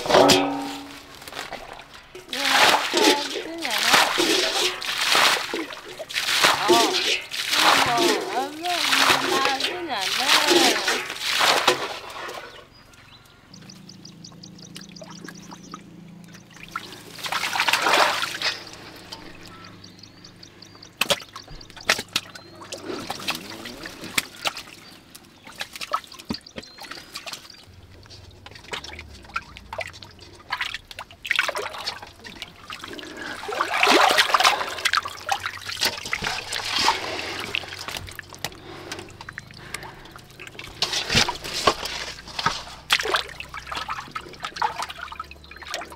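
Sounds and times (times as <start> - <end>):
hands sloshing in muddy water: 0.0 - 12.7, 16.3 - 45.9
water trickling: 0.0 - 45.9.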